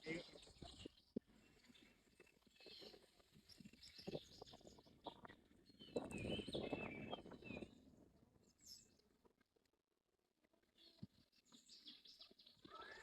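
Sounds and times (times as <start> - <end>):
small birds chirping: 0.0 - 9.2, 10.6 - 13.0.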